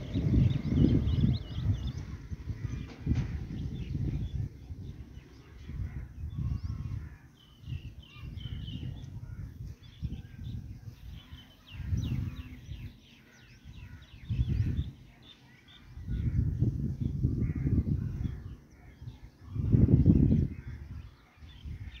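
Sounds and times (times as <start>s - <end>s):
birds chirping: 0.0s - 22.0s
wind rumble on microphone: 0.0s - 22.0s.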